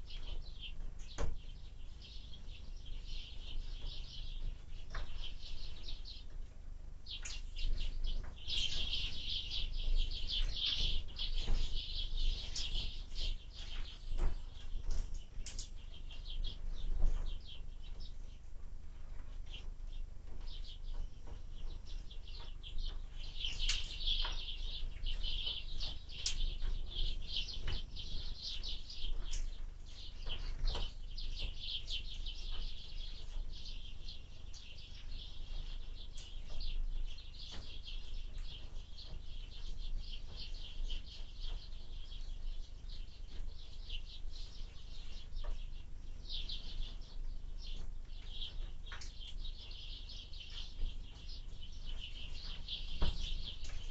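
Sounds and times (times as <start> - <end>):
small birds chirping and twittering: 0.0 - 53.9.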